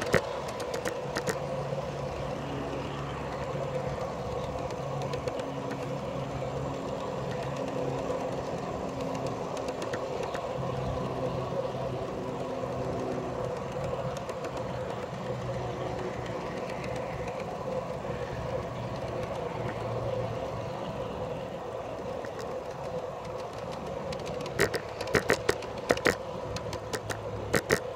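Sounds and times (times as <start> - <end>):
faint clicks: 0.0 - 27.9
train wheels rumbling on rail: 0.0 - 27.9.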